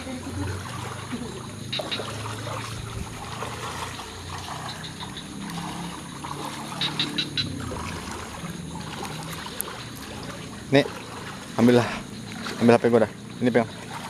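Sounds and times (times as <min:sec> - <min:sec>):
water trickling in rain: 0:00.0 - 0:14.0.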